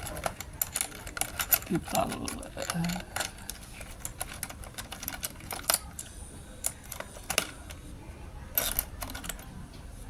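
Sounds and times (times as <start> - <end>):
machine parts clicking and tapping: 0.0 - 7.8, 8.5 - 9.4.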